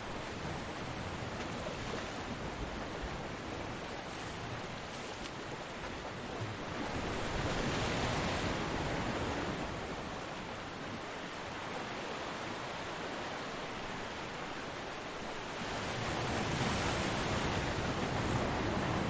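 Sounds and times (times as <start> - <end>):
waves washing onto a beach: 0.0 - 19.0.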